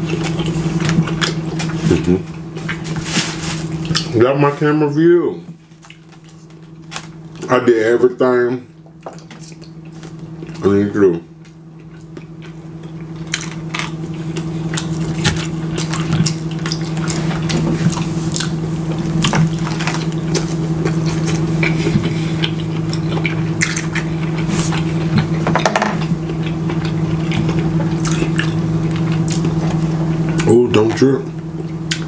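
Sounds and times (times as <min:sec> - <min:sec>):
wet chewing sounds: 0:00.0 - 0:04.2, 0:05.7 - 0:07.5, 0:08.9 - 0:10.6, 0:11.4 - 0:25.4, 0:26.0 - 0:30.9, 0:31.5 - 0:32.0
steady low hum: 0:00.0 - 0:32.0.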